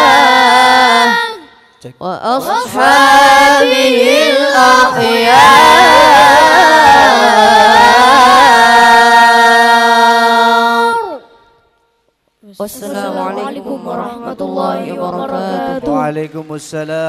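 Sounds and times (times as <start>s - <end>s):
boys chanting: 0.0s - 1.6s, 2.2s - 11.4s, 12.7s - 16.2s.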